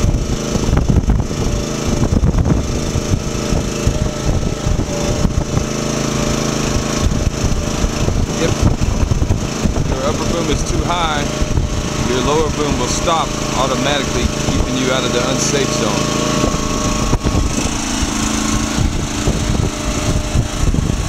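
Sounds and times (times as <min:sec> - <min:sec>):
uneven low rumble: 0:00.0 - 0:15.2, 0:15.9 - 0:21.0
small engine running: 0:00.0 - 0:21.0.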